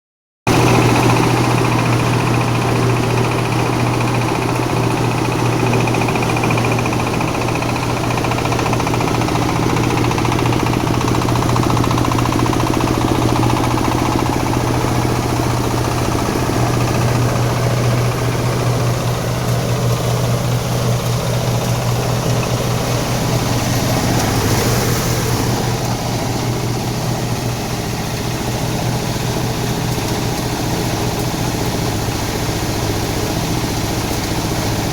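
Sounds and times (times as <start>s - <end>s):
grinding machine humming: 0.5s - 34.9s.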